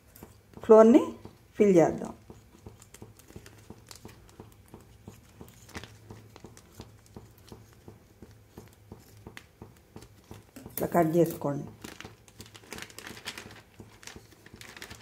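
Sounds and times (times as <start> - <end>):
plastic film crinkling: 2.4 - 15.0.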